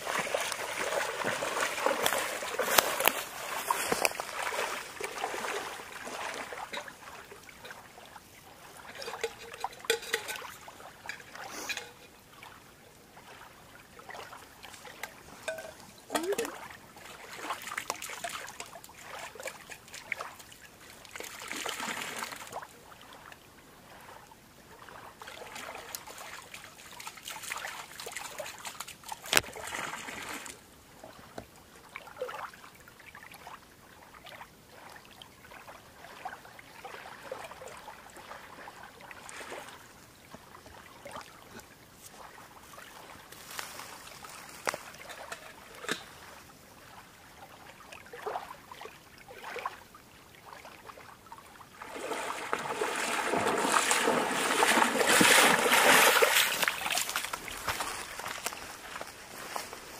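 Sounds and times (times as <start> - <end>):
lake water lapping: 0.0 - 59.9.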